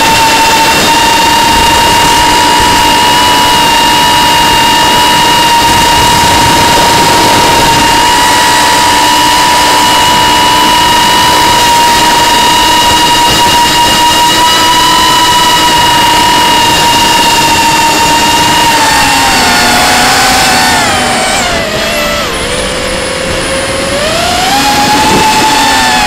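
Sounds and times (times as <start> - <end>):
drone motors whining: 0.0 - 26.0
rushing air: 0.0 - 26.0.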